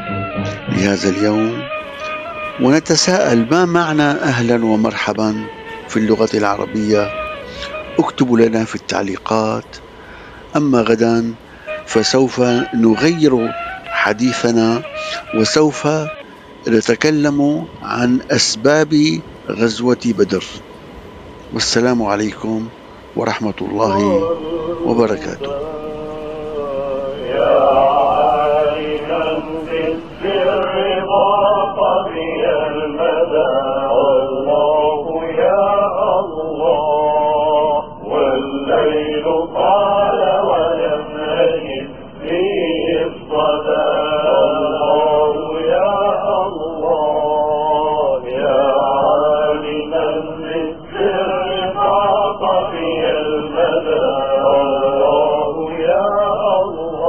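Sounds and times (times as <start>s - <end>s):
man chanting unaccompanied: 0.0s - 20.7s, 21.4s - 57.0s.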